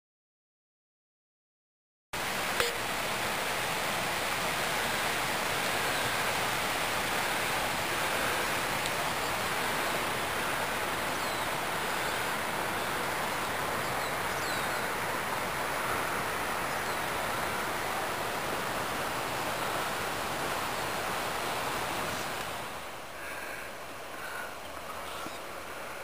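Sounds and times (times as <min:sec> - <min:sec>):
creek water rushing: 0:02.2 - 0:26.0.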